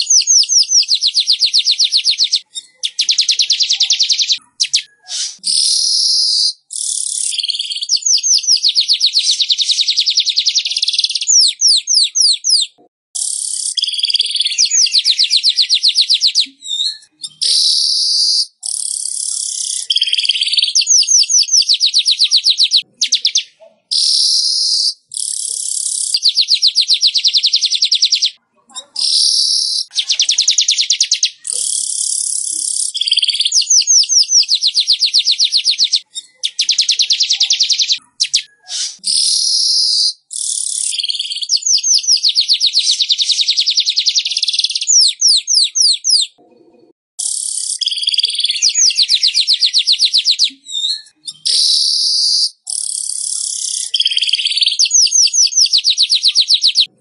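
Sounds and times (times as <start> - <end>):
bird chattering trills: 0.0 - 46.4, 47.2 - 56.9.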